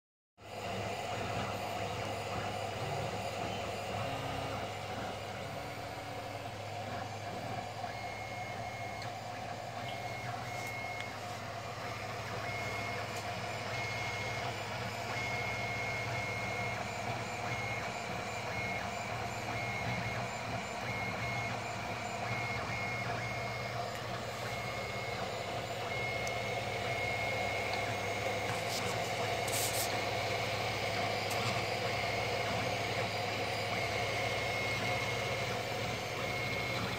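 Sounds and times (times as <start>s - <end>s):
printer fans humming: 0.4s - 36.9s
stepper motors whining: 0.5s - 36.9s.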